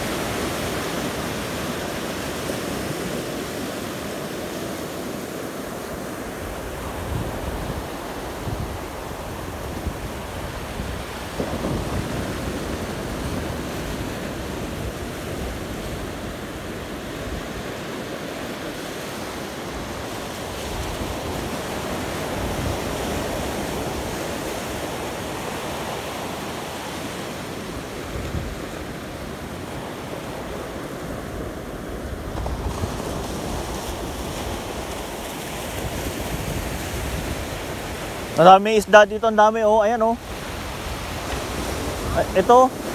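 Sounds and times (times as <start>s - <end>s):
ocean surf breaking: 0.0s - 42.9s
wind buffeting microphone: 6.3s - 18.1s, 18.7s - 42.9s.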